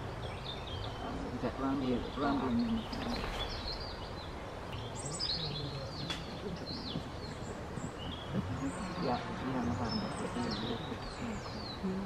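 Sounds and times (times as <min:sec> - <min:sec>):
small birds chirping and whistling: 0:00.0 - 0:12.0.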